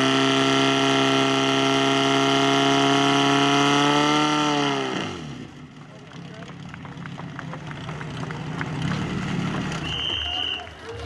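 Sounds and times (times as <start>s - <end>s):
fire pump engine running: 0.0s - 11.0s.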